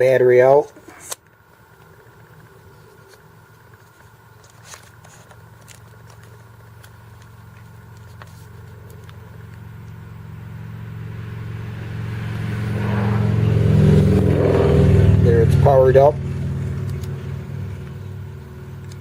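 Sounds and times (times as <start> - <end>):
low motor hum: 1.3 - 19.0.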